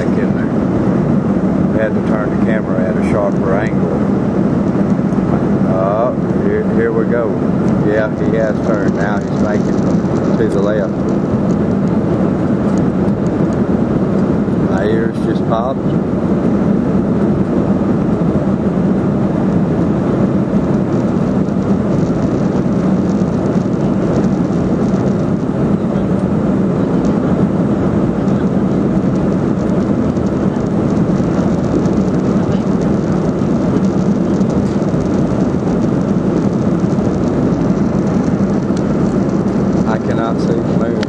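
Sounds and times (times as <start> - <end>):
jet engine rumble: 0.0 - 41.0
low droning hum: 0.0 - 41.0
rushing air: 0.0 - 41.0.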